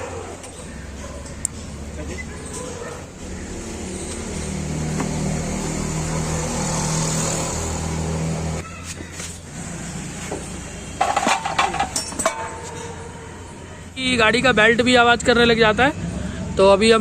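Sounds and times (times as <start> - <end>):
scooter engine humming: 0.0 - 17.0.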